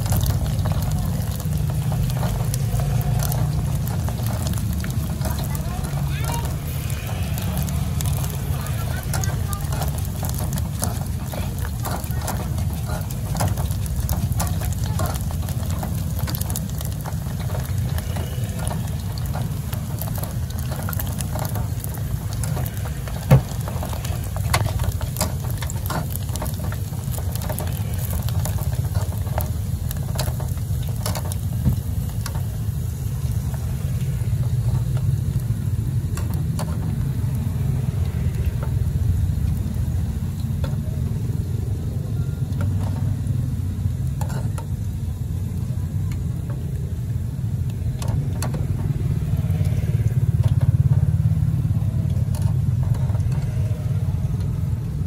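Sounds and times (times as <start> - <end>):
meatballs crackling in oil: 0.0 - 55.0
steady low rumble: 0.0 - 55.0.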